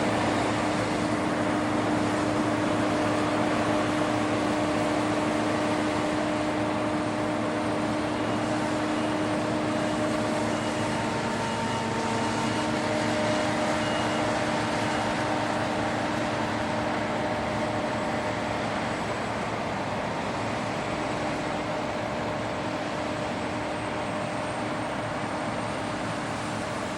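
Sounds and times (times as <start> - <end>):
combine harvester droning: 0.0 - 26.9.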